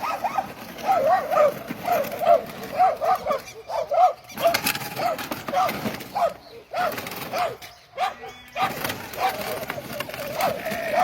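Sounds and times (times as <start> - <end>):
farm animal calling: 0.0 - 11.0.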